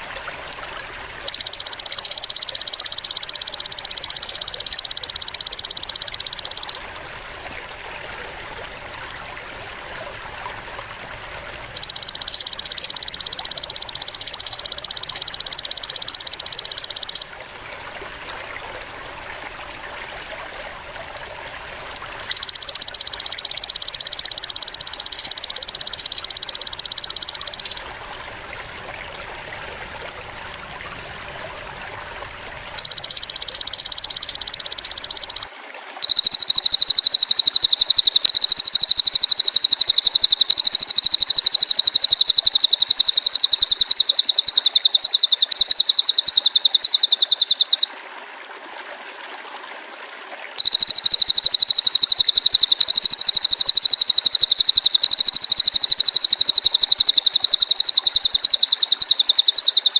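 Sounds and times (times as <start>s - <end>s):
quiet outdoor background: 0.0s - 59.9s.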